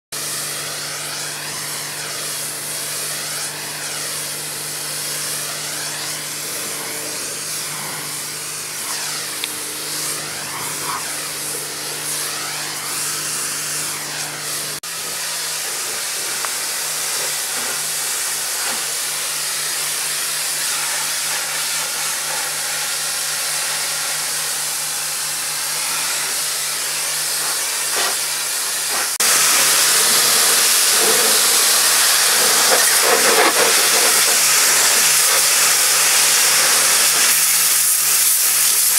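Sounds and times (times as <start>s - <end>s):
pressure washer spray hissing: 0.2s - 38.9s.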